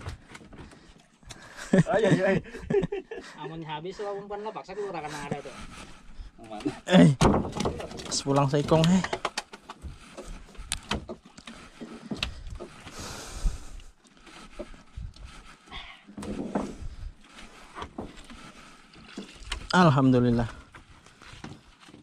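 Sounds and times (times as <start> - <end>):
line hauled against wooden boat: 0.0 - 22.0.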